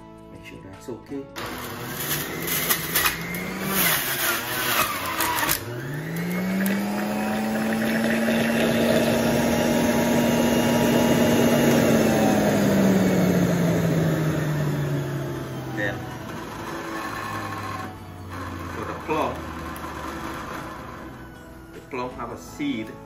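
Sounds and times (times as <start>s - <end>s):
fruit crunching in juicer: 1.4s - 21.3s
juicer motor whining: 1.4s - 21.9s.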